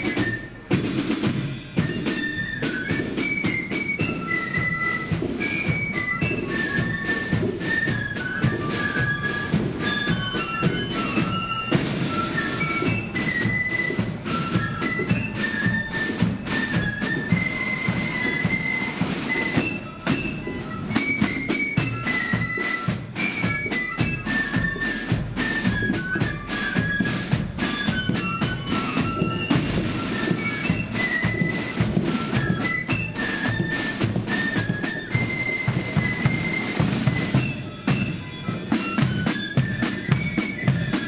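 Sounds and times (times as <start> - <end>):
flutes playing melody: 0.0 - 41.0
snare and bass drums: 0.0 - 41.0.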